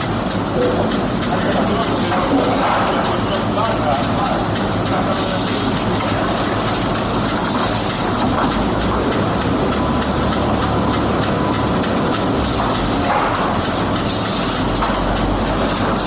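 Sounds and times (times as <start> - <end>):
wood-processing machinery running: 0.0 - 16.0.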